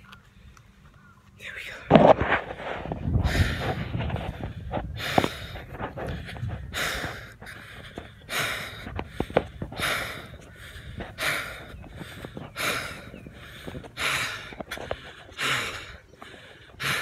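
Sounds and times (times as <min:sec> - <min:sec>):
man breathing heavily: 0:01.4 - 0:17.0
low rumble: 0:01.8 - 0:17.0.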